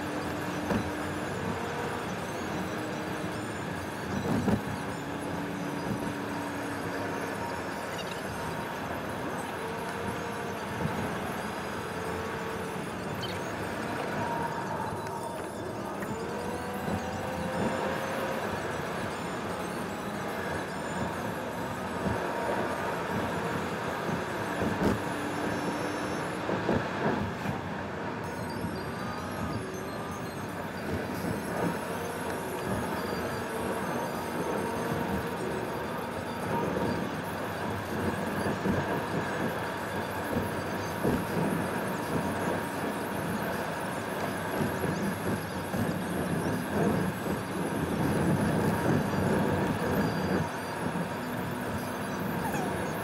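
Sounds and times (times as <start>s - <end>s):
car engine cruising: 0.0s - 53.0s
tyres on asphalt: 0.0s - 53.0s.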